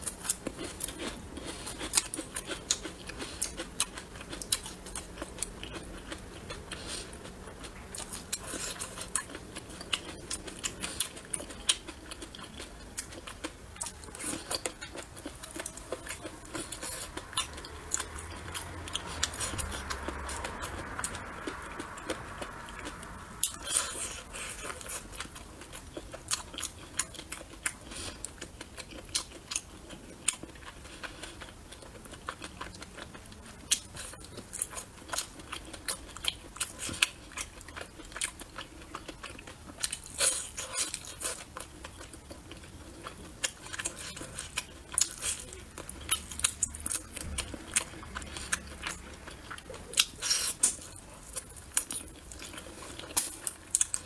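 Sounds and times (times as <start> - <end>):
chewing and biting meat: 0.0 - 54.0.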